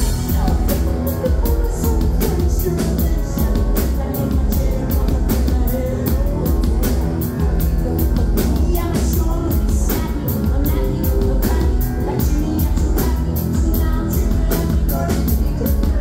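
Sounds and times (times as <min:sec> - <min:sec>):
drum kit with cymbals: 0:00.0 - 0:16.0
electric bass: 0:00.0 - 0:16.0
person singing: 0:00.0 - 0:16.0.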